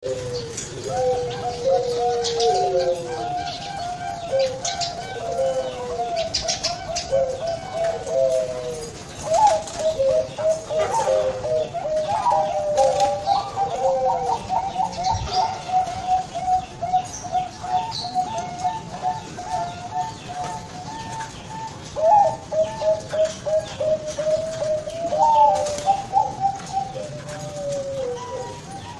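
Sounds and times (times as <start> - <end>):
dove cooing: 0.0 - 28.9.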